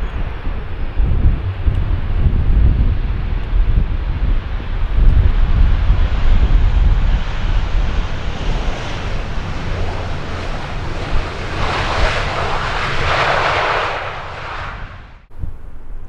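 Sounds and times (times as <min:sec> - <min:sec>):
jet airliner passing: 0:00.0 - 0:16.0
wind rumble on microphone: 0:00.0 - 0:16.0.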